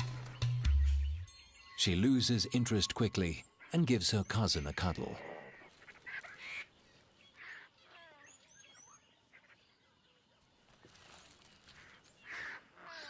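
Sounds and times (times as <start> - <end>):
faint bush ambience: 0.0 - 13.0
bird chirps and calls: 0.2 - 13.0.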